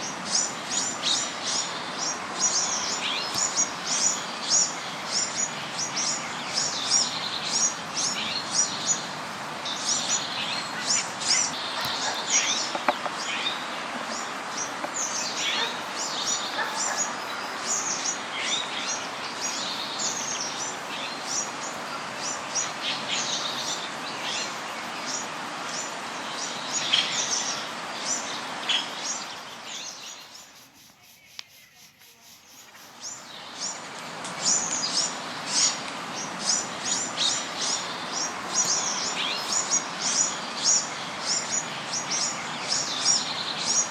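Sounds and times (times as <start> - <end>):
small birds chirping: 0.0 - 43.9
steady hiss: 0.0 - 43.9.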